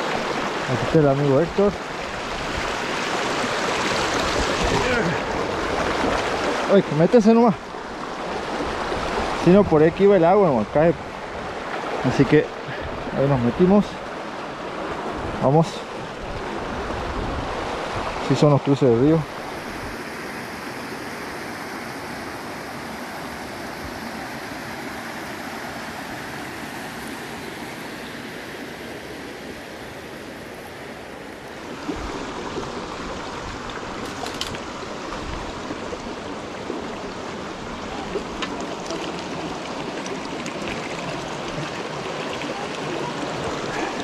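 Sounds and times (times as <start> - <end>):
river rushing over rocks: 0.0 - 44.0.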